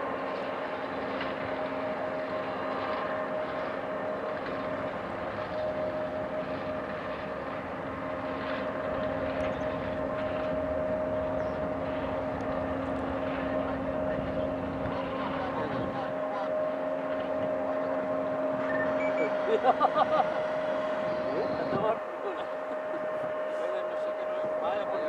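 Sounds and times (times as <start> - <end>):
jet engines droning: 0.0 - 25.0.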